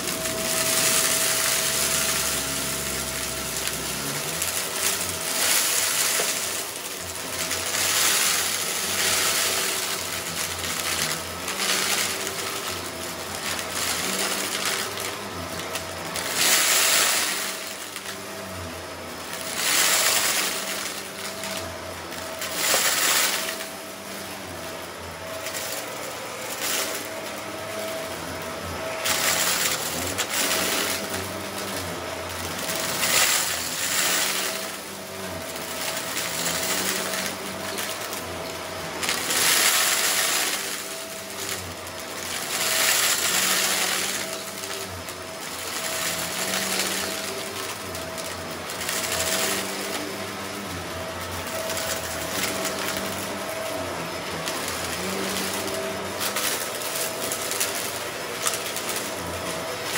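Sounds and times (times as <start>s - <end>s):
upright vacuum running: 0.0s - 59.9s.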